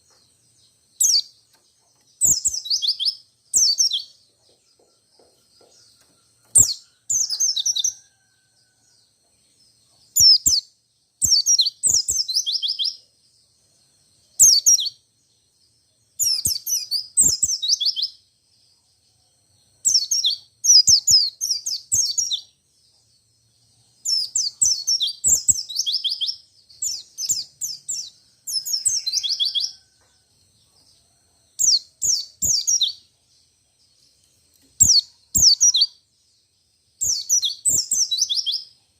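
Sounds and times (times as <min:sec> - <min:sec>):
bird singing high chirps: 0:00.0 - 0:13.2, 0:14.2 - 0:30.0, 0:30.6 - 0:33.1, 0:33.7 - 0:36.1, 0:37.0 - 0:38.8.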